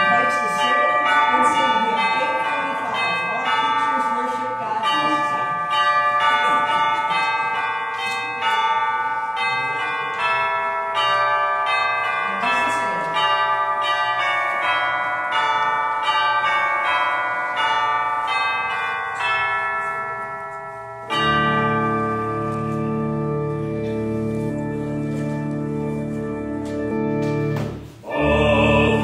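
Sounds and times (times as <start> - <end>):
bells ringing a tune: 0.0 - 29.0.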